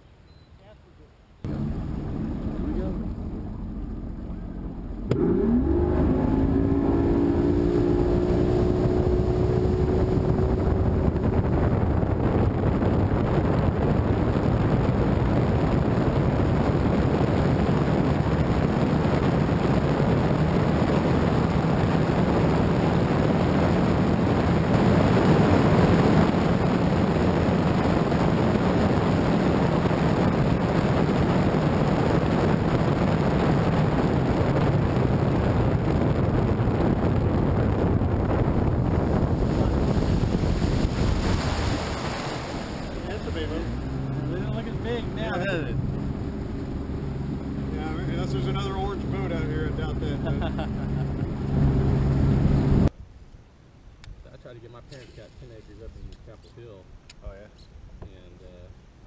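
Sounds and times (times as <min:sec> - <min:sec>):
outboard motor whining: 0:01.4 - 0:52.9
rush of wind and water: 0:05.1 - 0:53.1.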